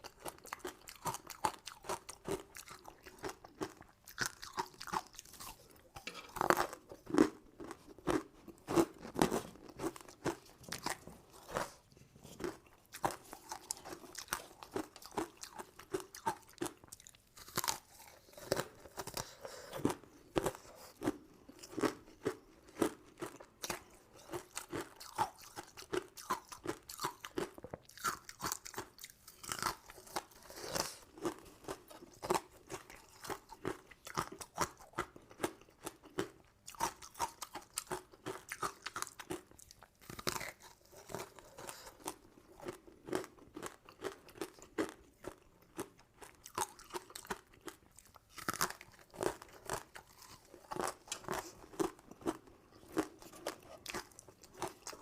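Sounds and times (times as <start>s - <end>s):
chewing and crunching candy: 0.0s - 55.0s.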